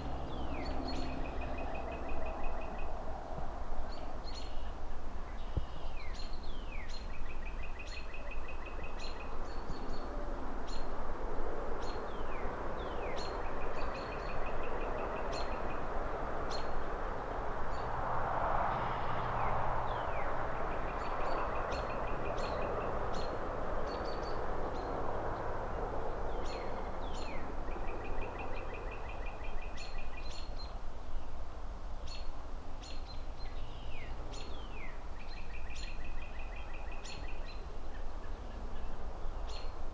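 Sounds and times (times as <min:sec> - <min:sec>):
low traffic rumble: 0:00.0 - 0:39.9.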